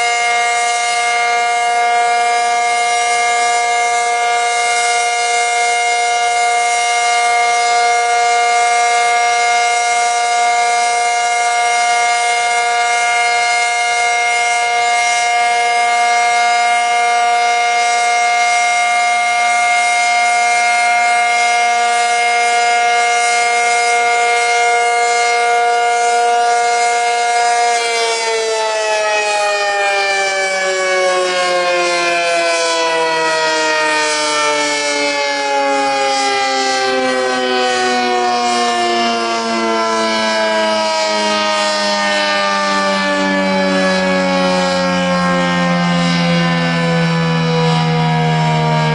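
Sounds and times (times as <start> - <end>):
dual-tone warning siren: 0.0 - 48.9.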